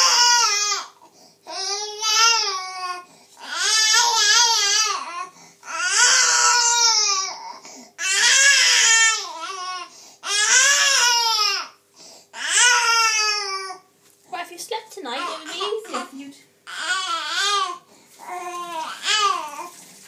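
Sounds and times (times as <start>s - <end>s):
baby crying: 0.0s - 11.8s, 12.4s - 13.9s, 16.7s - 19.8s.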